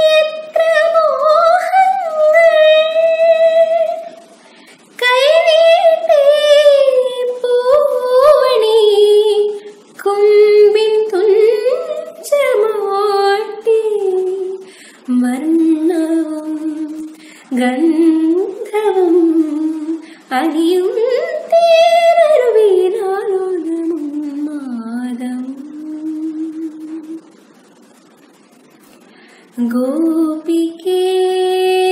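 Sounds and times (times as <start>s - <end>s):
woman singing unaccompanied: 0.0s - 28.1s, 29.5s - 31.9s.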